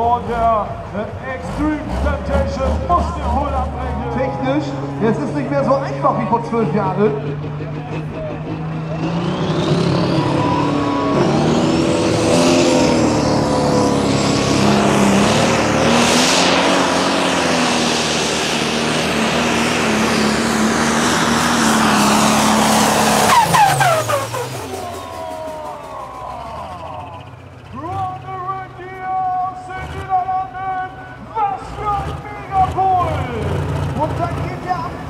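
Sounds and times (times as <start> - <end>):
diesel engine at full power: 0.0 - 35.0.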